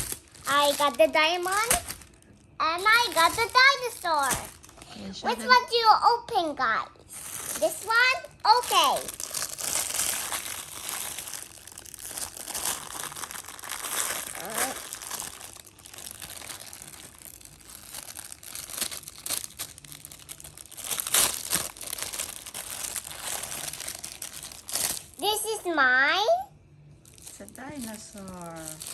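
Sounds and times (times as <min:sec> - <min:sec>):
plastic packaging crinkling: 0:00.0 - 0:05.9, 0:07.0 - 0:25.6, 0:27.0 - 0:28.9.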